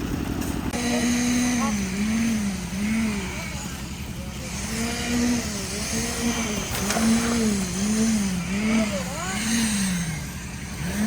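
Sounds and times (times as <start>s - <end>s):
concrete mixer engine running: 0.0s - 11.0s.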